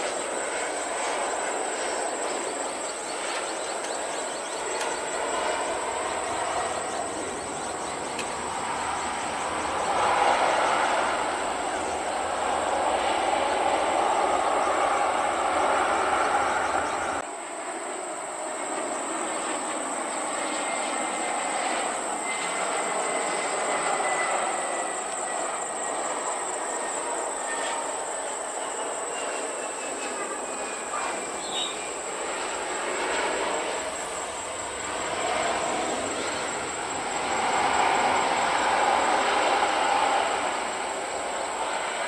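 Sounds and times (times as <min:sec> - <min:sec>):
jet engine roar: 0:00.0 - 0:42.0.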